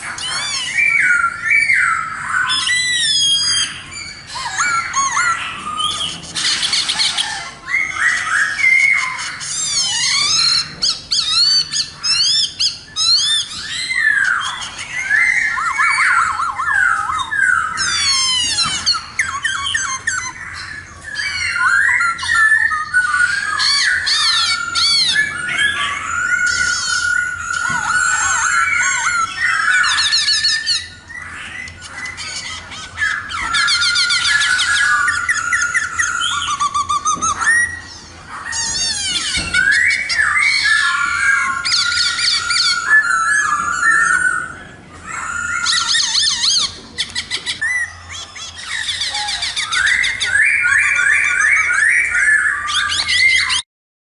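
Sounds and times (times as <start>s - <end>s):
laughingthrush singing: 0.0s - 53.6s.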